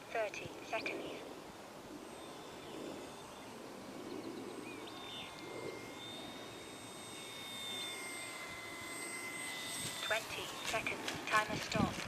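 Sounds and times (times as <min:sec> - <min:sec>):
model airplane motor whine: 0:00.0 - 0:12.0
outdoor noise: 0:00.0 - 0:12.0.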